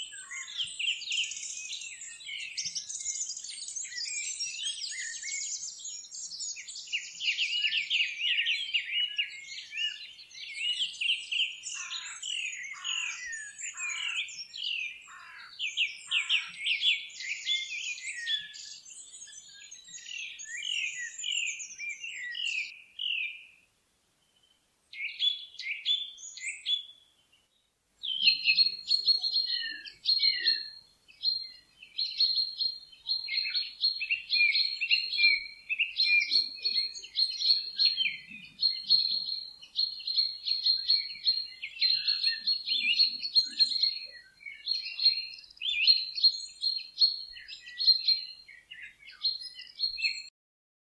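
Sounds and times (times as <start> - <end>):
songbirds chirping and trilling: 0.0 - 50.3.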